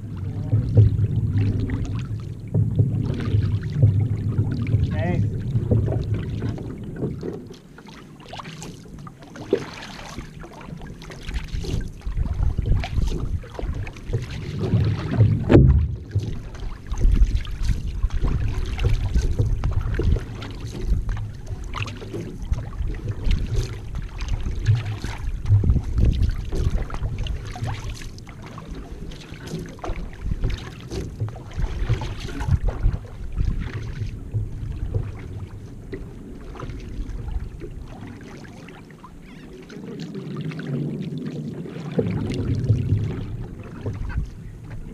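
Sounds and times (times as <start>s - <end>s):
wind rumble on microphone: 0.0s - 7.6s, 8.6s - 44.9s
paddle stroke splashes: 0.0s - 44.9s
water rushing along a hull: 0.0s - 44.9s.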